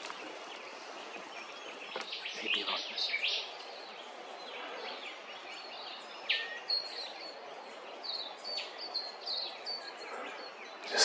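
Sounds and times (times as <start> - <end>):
steady outdoor hiss: 0.0 - 11.0
wild birds calling: 0.0 - 11.0.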